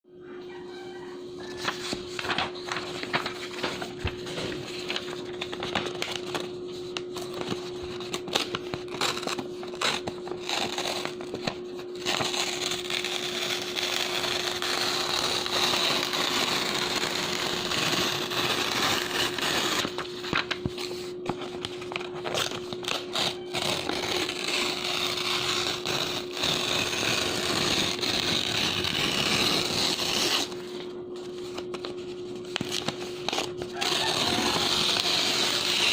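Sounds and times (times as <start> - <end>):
steady low hum: 0.1 - 35.9
paper tearing: 1.5 - 35.9.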